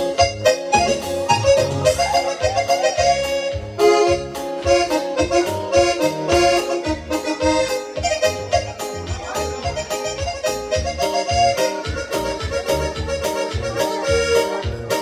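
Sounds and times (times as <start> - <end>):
accordion melody: 0.0 - 15.0
bass and drum beat: 0.0 - 15.0.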